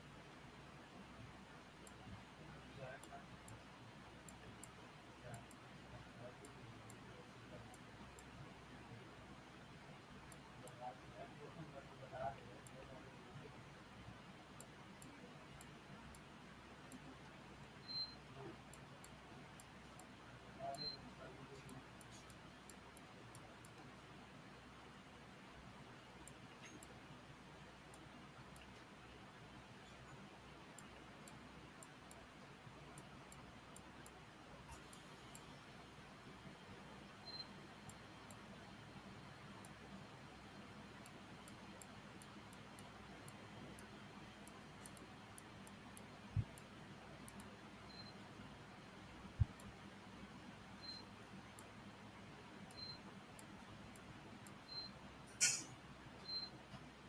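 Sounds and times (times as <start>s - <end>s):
faint high-pitched ticks: 1.1s - 57.0s
computer mouse clicks: 1.7s - 8.4s, 14.1s - 24.0s, 25.9s - 27.1s, 27.8s - 56.9s.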